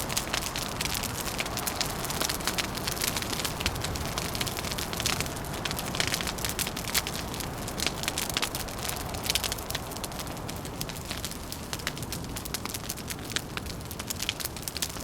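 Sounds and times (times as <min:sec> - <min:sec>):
low rush of wind: 0:00.0 - 0:15.0
wood fire crackling and popping: 0:00.0 - 0:15.0.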